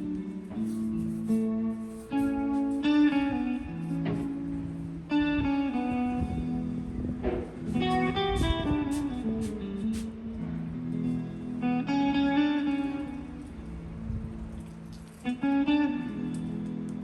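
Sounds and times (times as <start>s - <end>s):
plucked guitar music with light beat: 0.0s - 17.0s.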